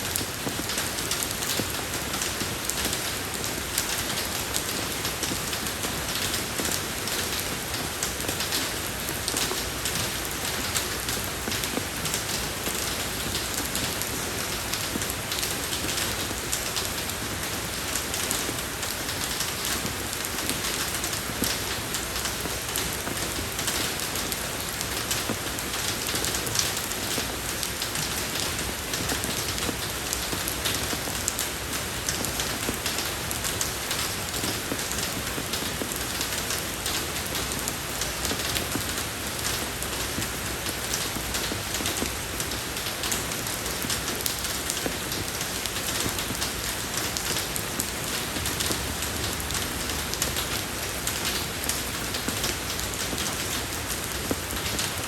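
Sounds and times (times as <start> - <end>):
rain falling on road: 0.0 - 55.0.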